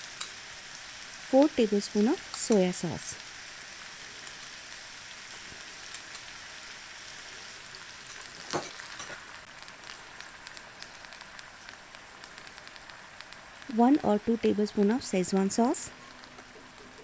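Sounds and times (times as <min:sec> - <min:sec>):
vegetables sizzling in pan: 0:00.0 - 0:17.0.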